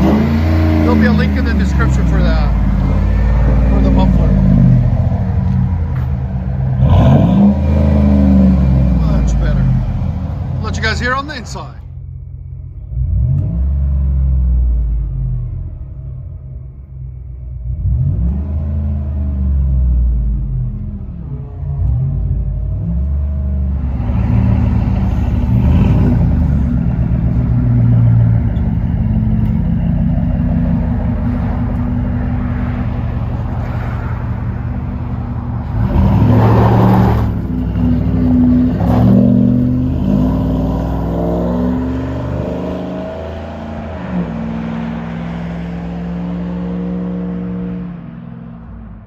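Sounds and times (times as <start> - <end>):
engine revving in cab: 0.0 - 49.0.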